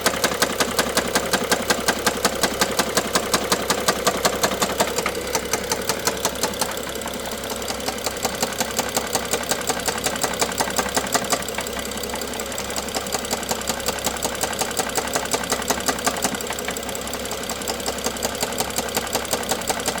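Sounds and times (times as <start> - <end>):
car engine idling with knock: 0.0 - 20.0.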